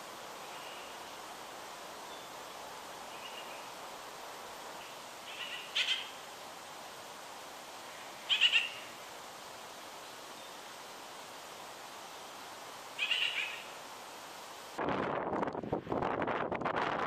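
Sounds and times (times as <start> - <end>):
steady background hiss: 0.0 - 16.5.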